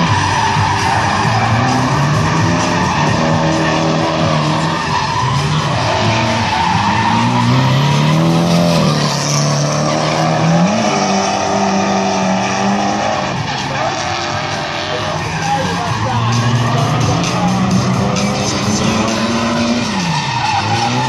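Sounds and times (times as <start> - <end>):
car engines revving hard: 0.0 - 21.0
tyre screech: 0.0 - 21.0.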